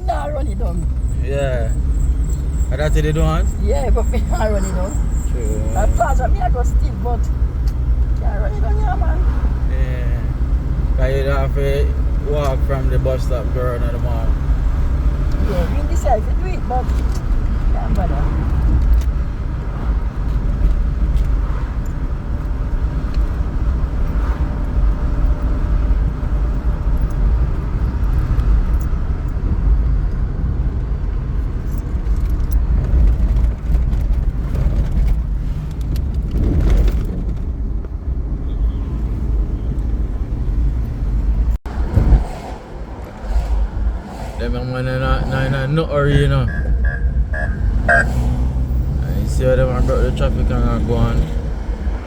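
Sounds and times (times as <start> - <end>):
car engine rumble: 0.0 - 52.0
road noise: 0.0 - 52.0.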